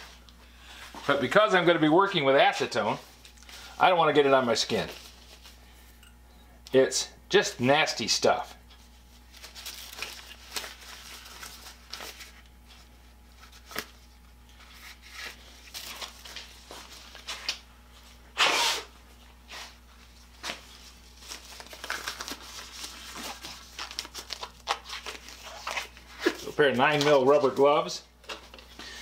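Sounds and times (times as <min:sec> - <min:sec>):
rubber gloves rustling: 0:02.5 - 0:06.0, 0:08.3 - 0:29.0.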